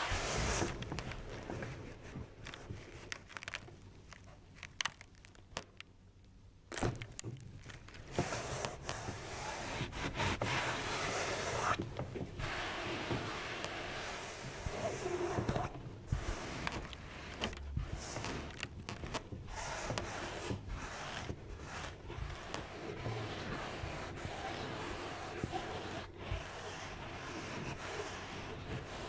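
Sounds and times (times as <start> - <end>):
close-up rubbing and scraping: 0.0 - 3.5, 8.0 - 29.0.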